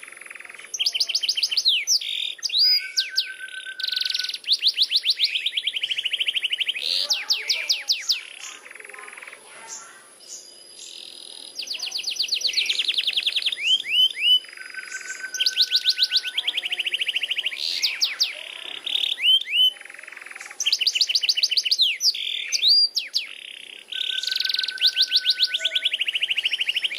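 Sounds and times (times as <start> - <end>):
canary singing trills: 0.0 - 26.9.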